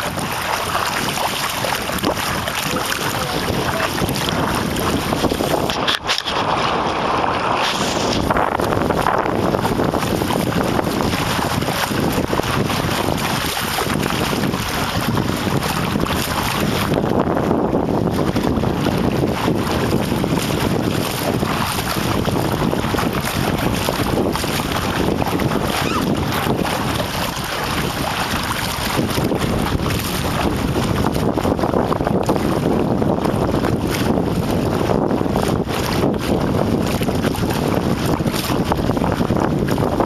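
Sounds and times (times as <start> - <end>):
choppy water splashing: 0.0 - 40.0
wind buffeting microphone: 0.0 - 40.0.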